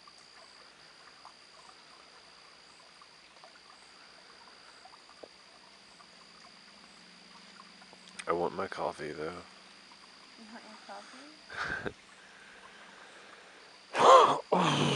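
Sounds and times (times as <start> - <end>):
insects droning: 0.0 - 14.9
low hiss: 0.0 - 14.9.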